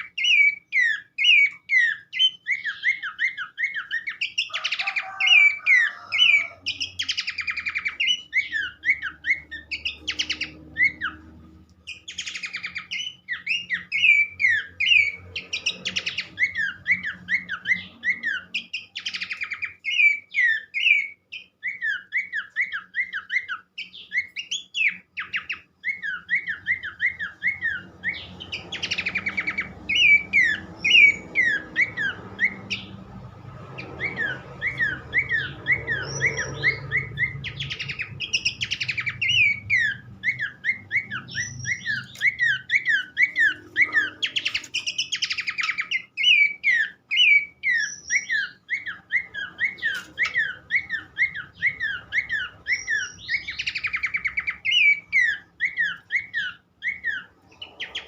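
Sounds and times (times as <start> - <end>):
bird whistling song: 0.0 - 58.0
harsh buzzy rattling bird calls: 0.0 - 58.0.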